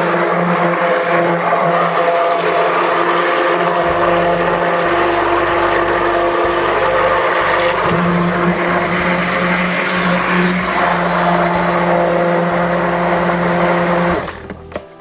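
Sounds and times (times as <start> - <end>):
stick blender motor running: 0.0 - 14.6.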